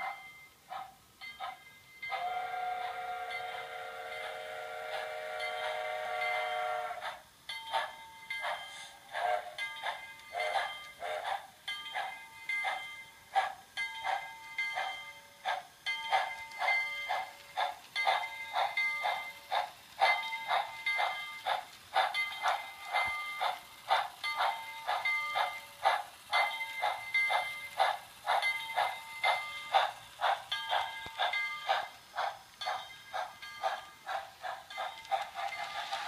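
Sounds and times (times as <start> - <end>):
locomotive bell ringing: 0.0 - 19.5, 20.1 - 27.8, 28.4 - 32.0, 32.6 - 36.0.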